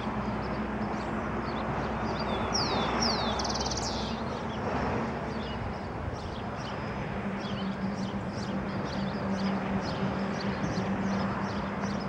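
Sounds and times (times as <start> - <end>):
wild birds chirping: 0.0 - 12.0.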